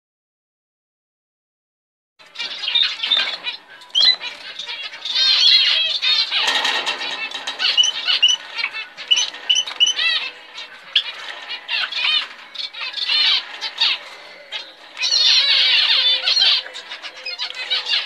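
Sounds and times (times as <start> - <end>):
finches chirping: 2.3 - 18.0.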